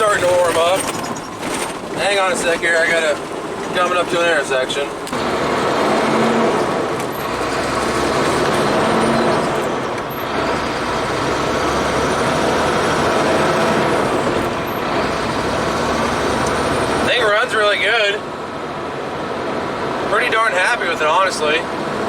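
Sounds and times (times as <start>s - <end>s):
diesel truck engine: 0.0s - 22.0s
road noise inside cab: 0.0s - 22.0s.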